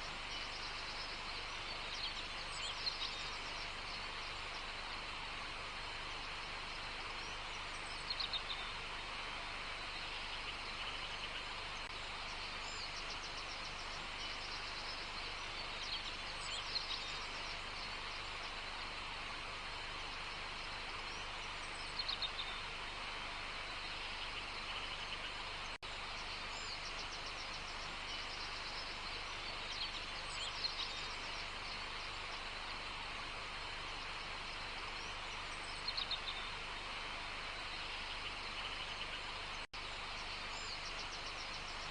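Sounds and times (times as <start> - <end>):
birds singing: 0.0 - 41.9
high outdoor background hiss: 0.0 - 41.9.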